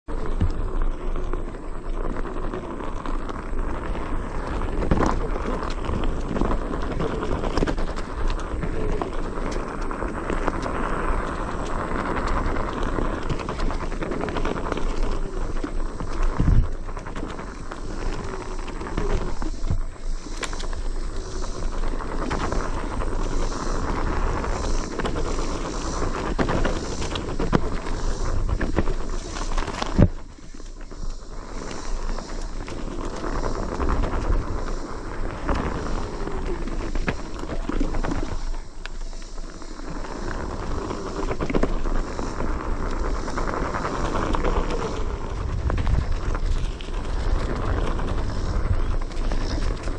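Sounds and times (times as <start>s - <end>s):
tyres rolling over dirt: 0.1s - 49.9s.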